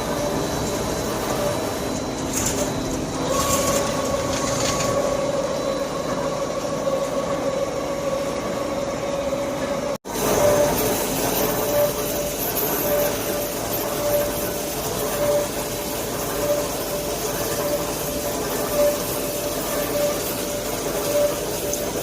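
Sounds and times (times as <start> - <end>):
held whine: 0.0 - 22.0
lathe machine noise: 0.0 - 22.0.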